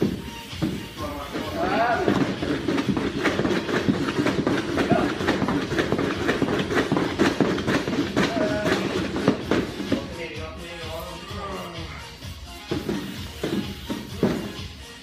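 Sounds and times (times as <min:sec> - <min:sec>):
ropes slapping a gym mat: 0:00.0 - 0:10.1, 0:12.7 - 0:14.7.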